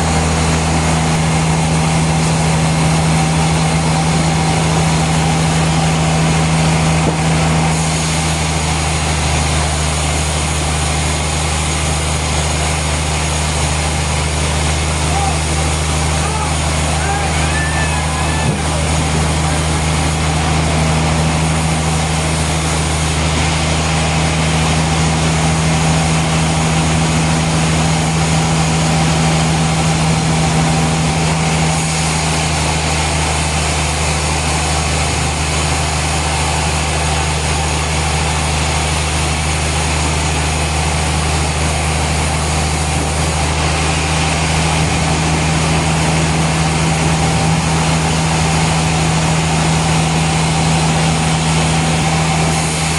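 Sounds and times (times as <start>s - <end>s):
heavy industrial machinery running: 0.0s - 52.9s.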